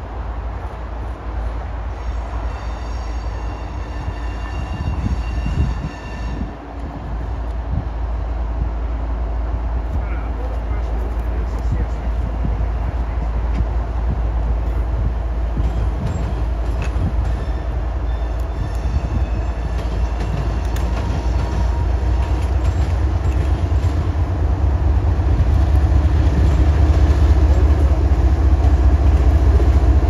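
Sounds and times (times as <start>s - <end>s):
diesel locomotive rumble: 0.0s - 30.0s.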